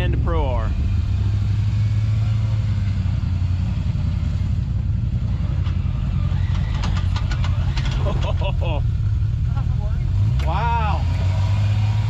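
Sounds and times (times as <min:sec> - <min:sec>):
utv engine idling: 0:02.1 - 0:11.9.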